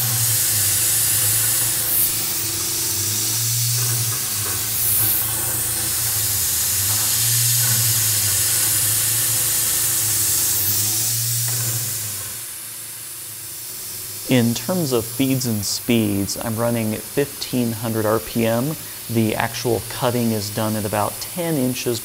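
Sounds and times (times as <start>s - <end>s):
air nozzle hissing: 0.0s - 22.0s
low machine hum: 0.0s - 22.0s
milling machine cutting steel: 0.0s - 22.0s
tool chatter: 0.0s - 22.0s.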